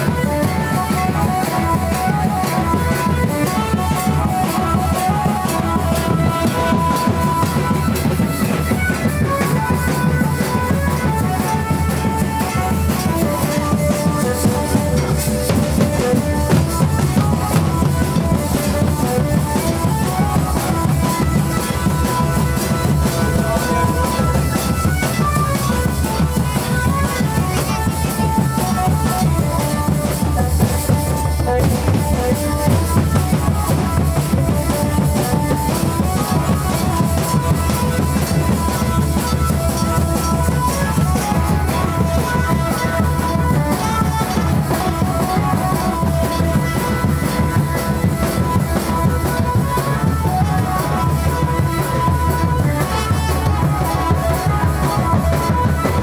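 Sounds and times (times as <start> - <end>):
barrel drums beaten: 0.0 - 56.0.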